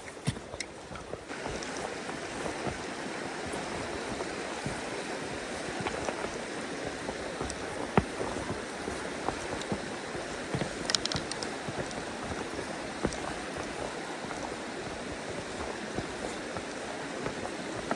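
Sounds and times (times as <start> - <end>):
stream rushing over rocks: 0.0 - 17.9.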